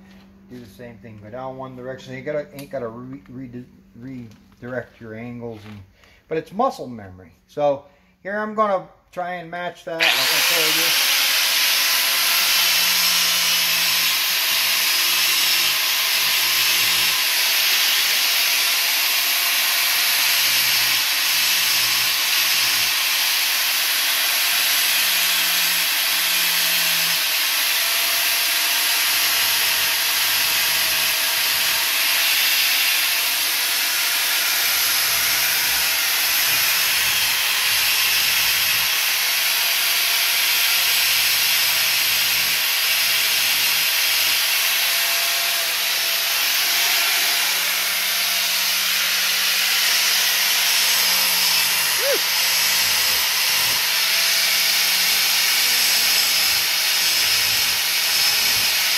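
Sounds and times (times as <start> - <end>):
angle grinder grinding metal: 9.9 - 58.9.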